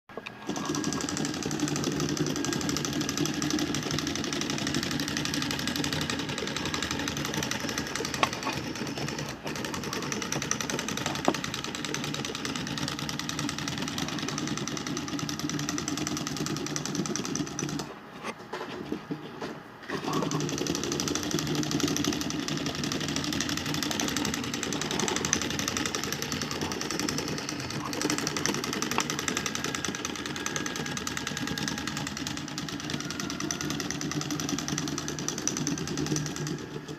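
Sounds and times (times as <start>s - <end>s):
toy electric motor whirring: 0.4s - 17.9s, 19.8s - 36.9s.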